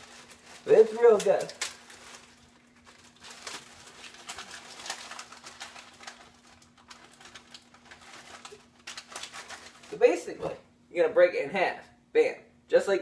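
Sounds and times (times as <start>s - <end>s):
plastic bag crinkling: 0.0s - 10.6s
faint low hum: 0.0s - 13.0s.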